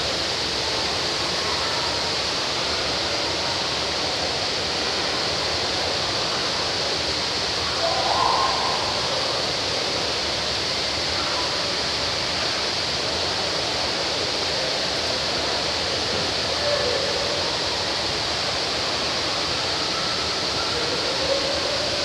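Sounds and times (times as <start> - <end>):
falling water rushing: 0.0 - 22.0.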